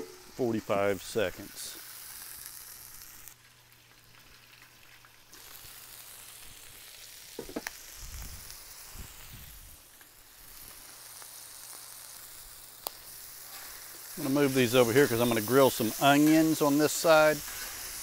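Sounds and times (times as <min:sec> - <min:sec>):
meat sizzling on griddle: 0:00.0 - 0:18.0.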